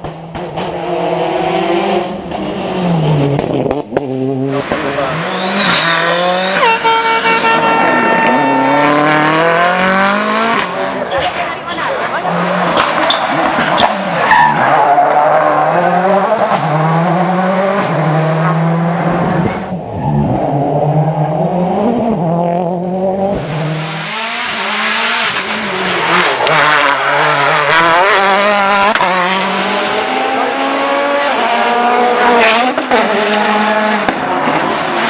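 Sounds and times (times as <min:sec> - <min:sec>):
car engine revving hard: 0:00.0 - 0:11.1, 0:12.0 - 0:35.0.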